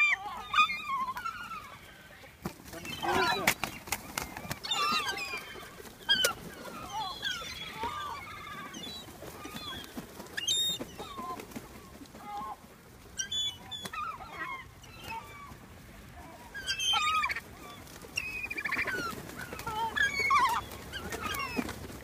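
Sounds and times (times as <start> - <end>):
flock of gulls calling: 0.0 - 22.0.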